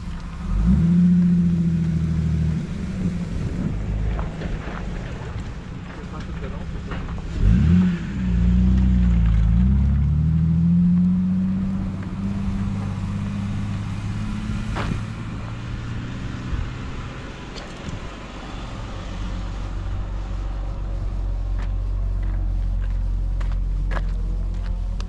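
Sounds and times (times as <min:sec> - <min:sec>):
car engine rolling on gravel: 0:00.0 - 0:25.0
low rumble: 0:00.0 - 0:25.0.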